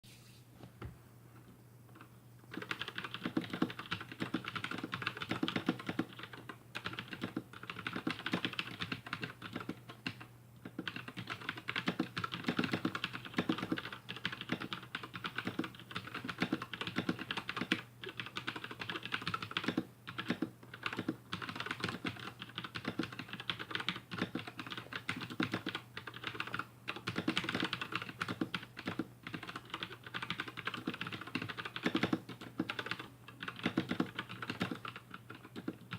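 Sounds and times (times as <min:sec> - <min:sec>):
mechanical keyboard typing: 0:02.0 - 0:35.9.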